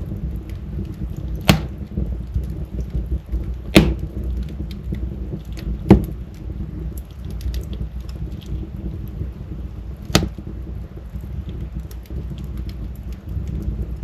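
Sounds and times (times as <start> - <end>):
loud sharp pops from fire: 0.0 - 14.0
wood fire crackling: 0.0 - 14.0.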